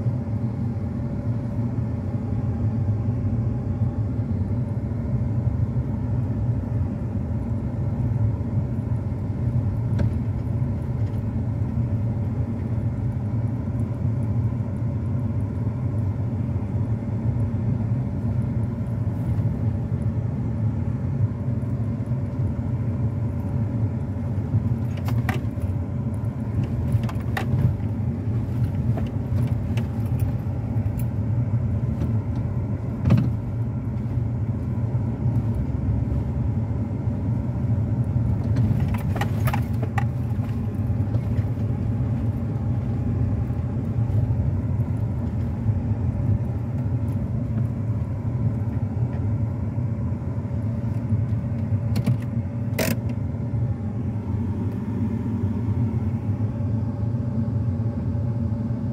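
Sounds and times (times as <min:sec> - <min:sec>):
car engine and tyres rumbling: 0:00.0 - 0:58.9.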